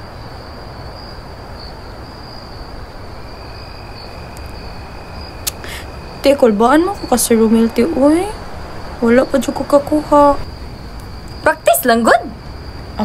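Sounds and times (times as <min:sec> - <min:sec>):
background hiss: 0:00.0 - 0:13.0
crickets trilling: 0:00.0 - 0:13.0.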